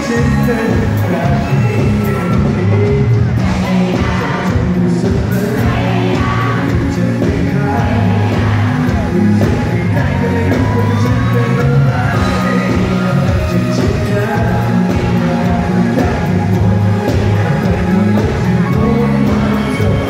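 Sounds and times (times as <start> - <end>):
audience shouting and whooping: 0.0 - 20.0
live pop-rock band: 0.0 - 20.0
person singing: 0.0 - 20.0.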